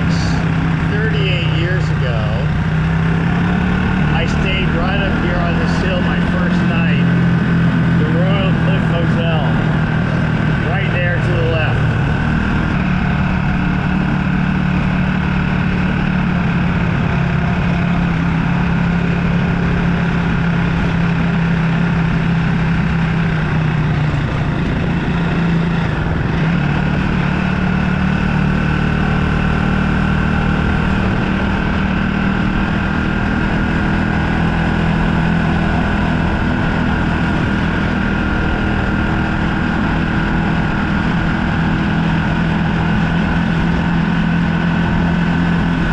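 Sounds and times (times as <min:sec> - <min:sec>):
motorbike engine running: 0:00.0 - 0:45.9.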